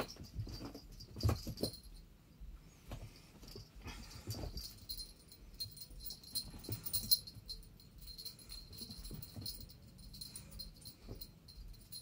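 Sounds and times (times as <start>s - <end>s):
collar jingling: 0.0s - 2.1s, 3.3s - 12.0s.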